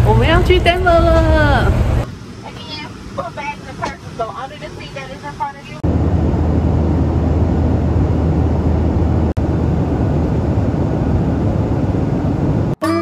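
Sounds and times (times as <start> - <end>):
airliner rushing noise: 0.6 - 12.8.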